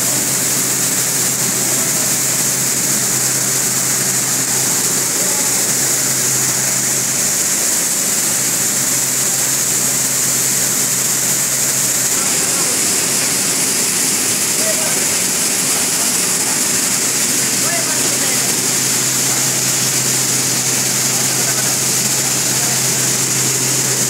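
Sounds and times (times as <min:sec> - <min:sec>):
low machine hum: 0:00.0 - 0:24.0
processing machinery running: 0:00.0 - 0:24.0.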